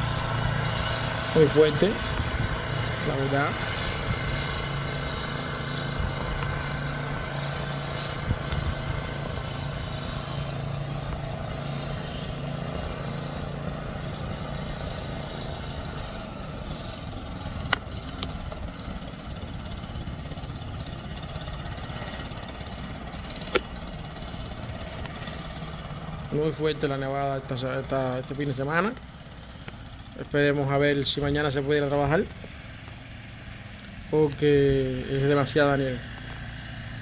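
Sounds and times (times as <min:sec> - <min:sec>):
engine hum: 0:00.0 - 0:37.0
street noise: 0:00.0 - 0:37.0.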